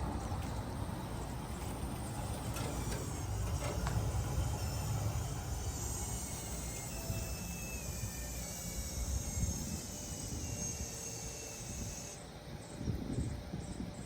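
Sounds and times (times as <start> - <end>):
heat pump humming: 0.0 - 14.0.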